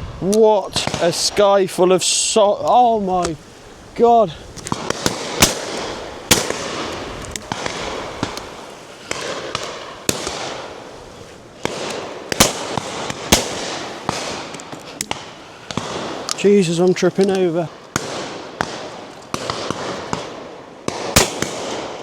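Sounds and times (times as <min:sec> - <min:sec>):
shotguns firing with echo: 0:00.7 - 0:01.5, 0:04.6 - 0:22.0.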